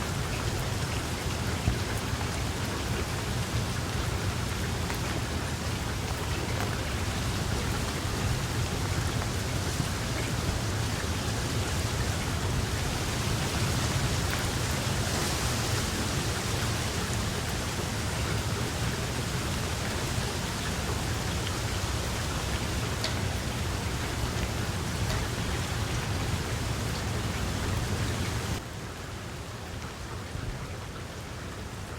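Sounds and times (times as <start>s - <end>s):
rain falling: 0.0s - 31.9s.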